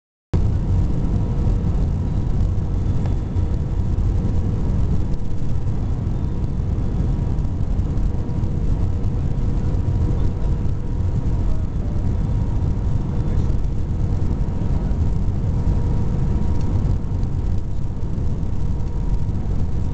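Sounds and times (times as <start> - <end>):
airplane cabin engine rumble: 0.3 - 19.9
faint steady hum tone: 0.4 - 19.9.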